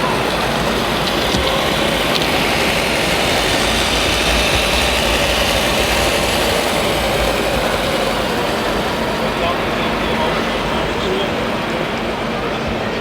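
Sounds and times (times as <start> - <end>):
engine-like running noise with hiss: 0.0 - 13.0.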